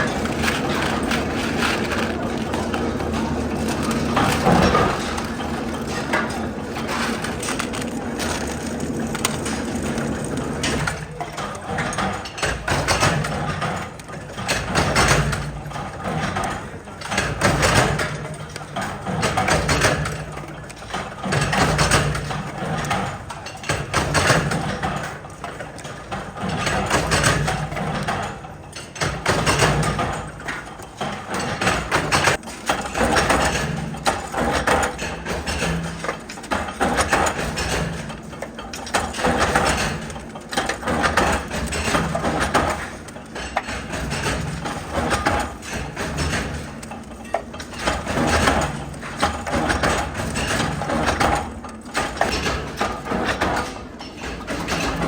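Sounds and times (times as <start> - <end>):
factory machinery din: 0.0 - 55.0.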